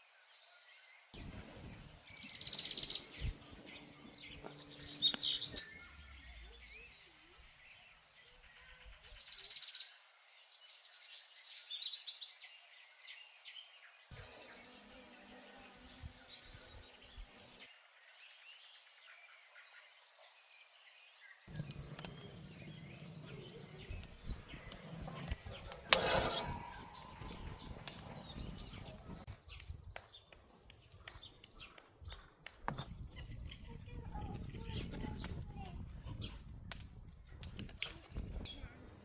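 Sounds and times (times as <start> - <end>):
birds chirping: 0.7 - 36.6.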